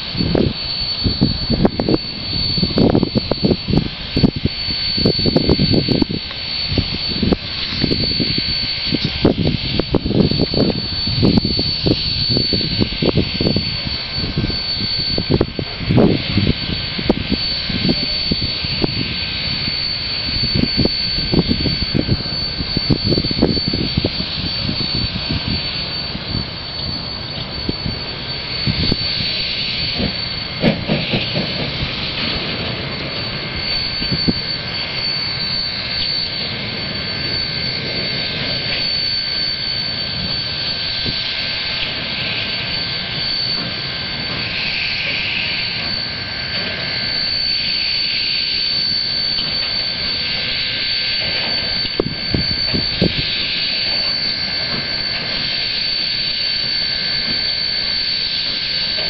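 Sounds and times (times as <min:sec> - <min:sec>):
distant steam locomotive exhaust beats: 0:00.0 - 0:59.0.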